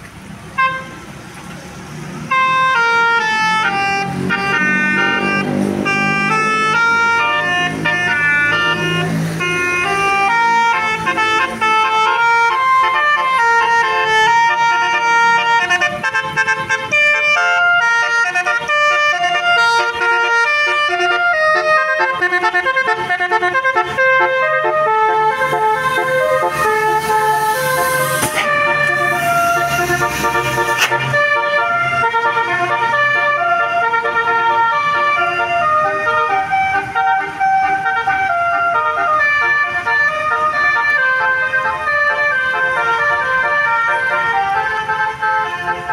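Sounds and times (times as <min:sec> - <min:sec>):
bus musical air horn: 0:00.6 - 0:01.0, 0:02.2 - 0:45.9.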